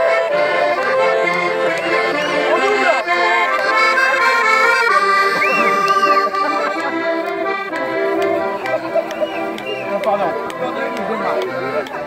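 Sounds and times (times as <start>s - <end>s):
button accordion playing tune: 0.0s - 12.0s.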